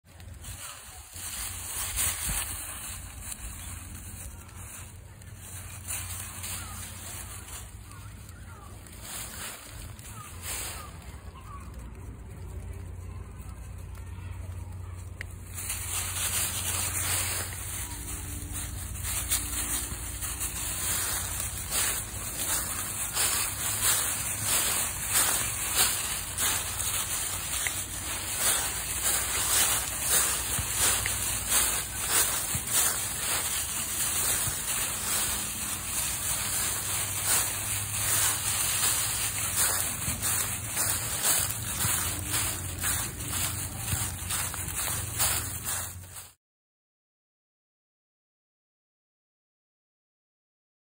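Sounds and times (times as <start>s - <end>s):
dry leaves crunching underfoot: 0.0s - 46.4s.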